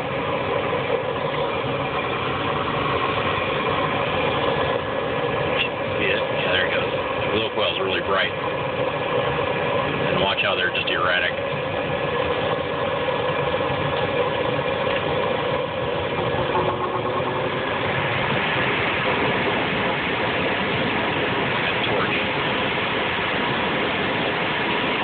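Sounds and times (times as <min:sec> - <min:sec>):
faint steady tones: 0:00.0 - 0:25.0
gas furnace blower rushing hum: 0:00.0 - 0:25.0.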